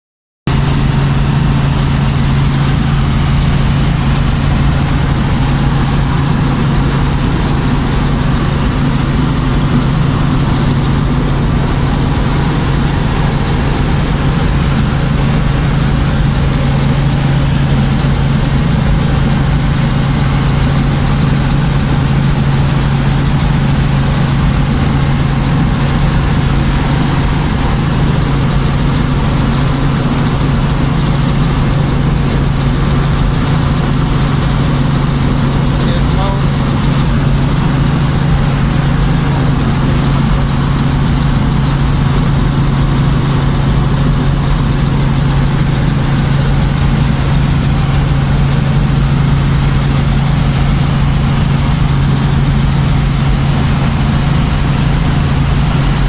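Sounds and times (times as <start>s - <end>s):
helicopter drone from cabin: 0.5s - 56.0s.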